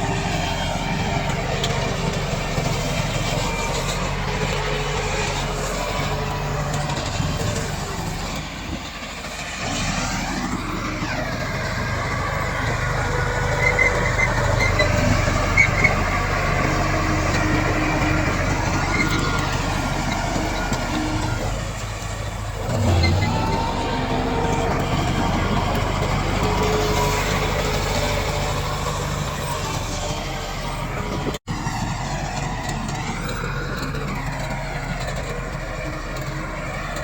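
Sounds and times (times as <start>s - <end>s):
bulldozer diesel engine working: 0.0s - 37.0s.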